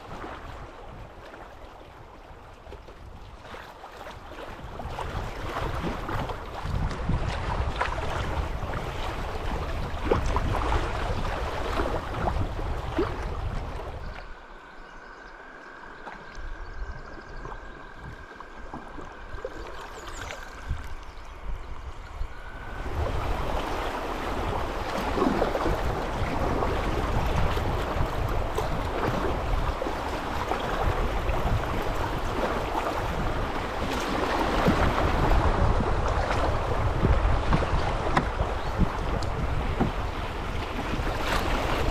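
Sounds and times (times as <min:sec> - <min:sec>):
wind buffeting microphone: 0:00.0 - 0:15.3, 0:16.3 - 0:41.9
water rushing: 0:00.0 - 0:41.9.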